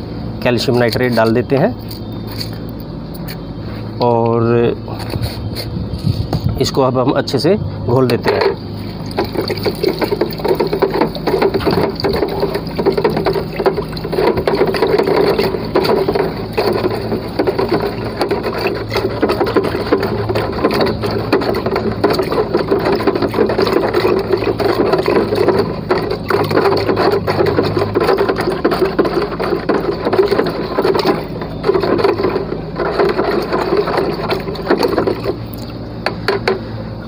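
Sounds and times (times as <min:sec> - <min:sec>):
pipe churning water in jar: 0:00.0 - 0:02.6, 0:04.9 - 0:36.8.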